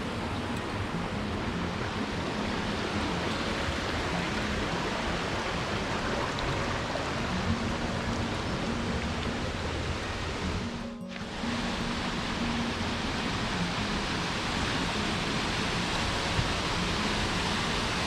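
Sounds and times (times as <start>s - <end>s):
creek water rushing over rock: 0.0s - 18.0s.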